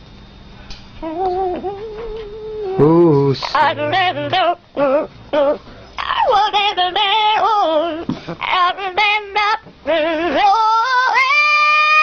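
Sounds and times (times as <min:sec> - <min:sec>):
parrot singing: 0:01.0 - 0:12.0.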